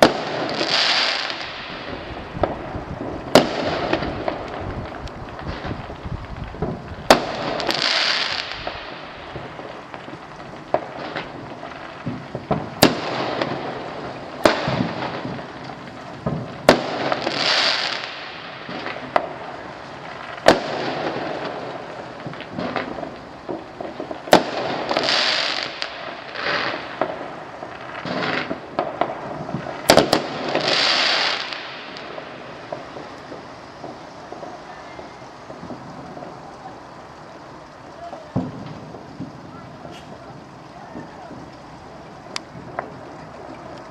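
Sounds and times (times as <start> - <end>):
fireworks bangs: 0.0 - 43.9
hissing crackle: 0.0 - 43.9.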